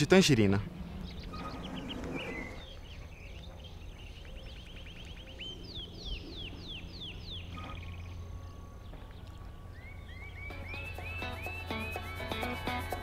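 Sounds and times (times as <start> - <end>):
birdsong trills and whistles: 0.7 - 13.0.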